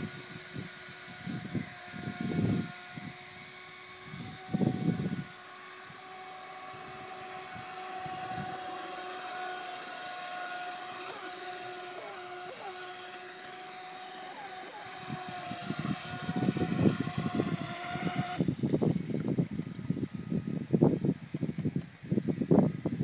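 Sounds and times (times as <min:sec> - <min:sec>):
electric motor high whine: 0:00.0 - 0:23.0.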